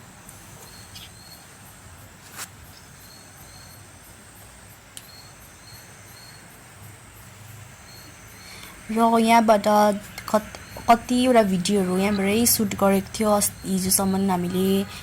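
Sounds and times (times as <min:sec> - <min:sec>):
faint outdoor hiss: 0:00.0 - 0:15.0
high whine: 0:00.0 - 0:15.0
insects chirping: 0:00.0 - 0:15.0.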